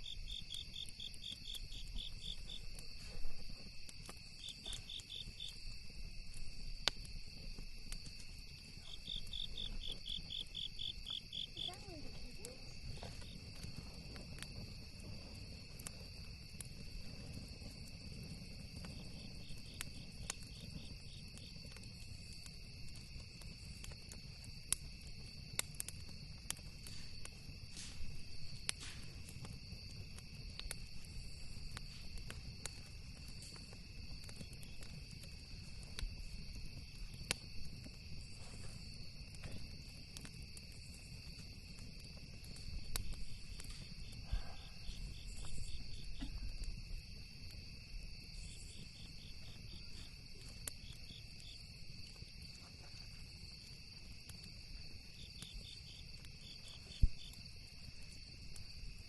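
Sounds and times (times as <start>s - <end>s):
campfire crackling and popping: 0.0s - 59.0s
crickets trilling: 0.0s - 59.0s.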